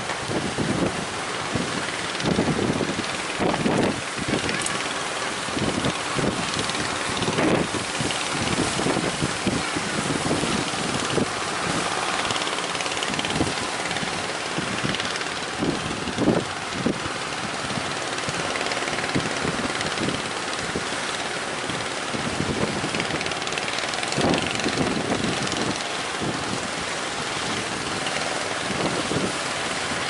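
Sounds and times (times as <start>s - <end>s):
rough sea rushing: 0.0s - 30.0s
wind buffeting microphone: 0.0s - 30.0s.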